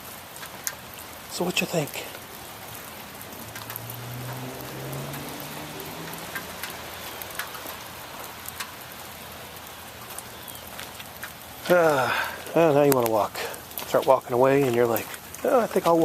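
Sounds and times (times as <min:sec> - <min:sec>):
wet snow falling hiss: 0:00.0 - 0:16.0.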